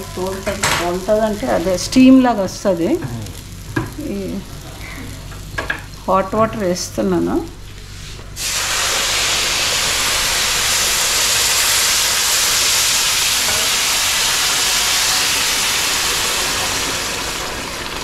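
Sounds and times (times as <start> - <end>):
pan hissing and sizzling: 0.0 - 18.0.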